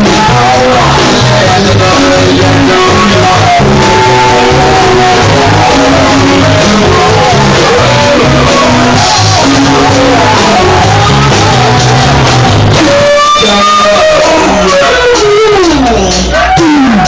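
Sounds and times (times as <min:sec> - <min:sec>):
person singing: 0:00.0 - 0:17.0
rock band playing live: 0:00.0 - 0:17.0.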